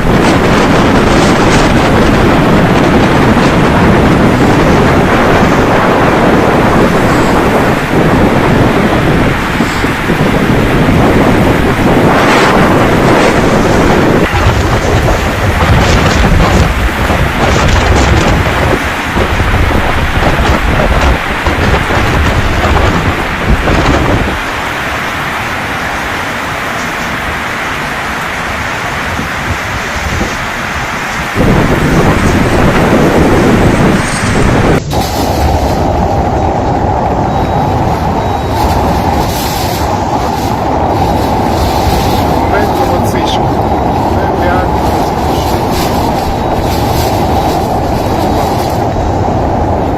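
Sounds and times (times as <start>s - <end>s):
rushing rain: 0.0s - 49.9s
wind buffeting microphone: 0.0s - 49.9s.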